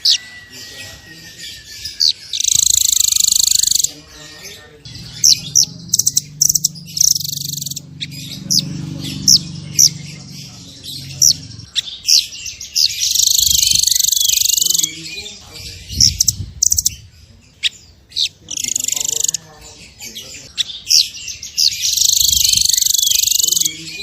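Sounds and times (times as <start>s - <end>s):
buzzy bird trill: 0.0s - 24.0s
songbirds whistling: 0.0s - 24.0s.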